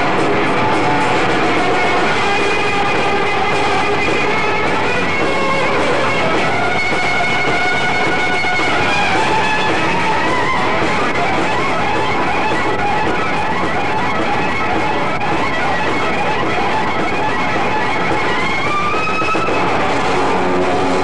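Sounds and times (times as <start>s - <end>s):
electric guitar lead: 0.0s - 21.0s
rock band playing live: 0.0s - 21.0s.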